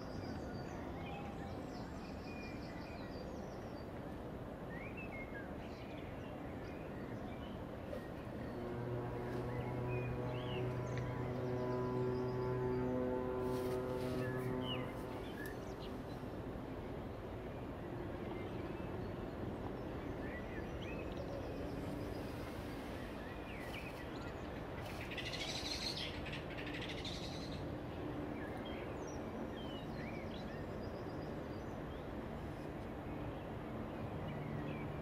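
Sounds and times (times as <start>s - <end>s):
low background hum: 0.0s - 35.0s
birds chirping: 5.8s - 35.0s.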